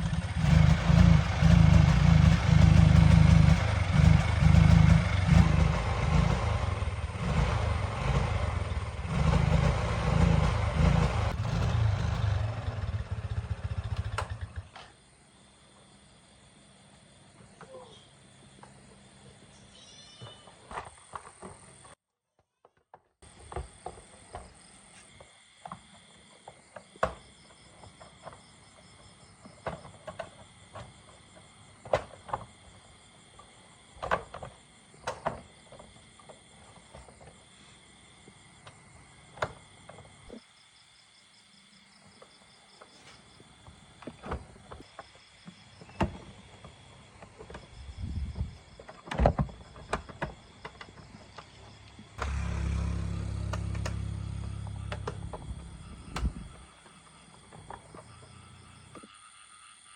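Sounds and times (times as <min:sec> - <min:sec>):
insects chirping: 0:00.0 - 0:22.0, 0:23.2 - 0:59.9.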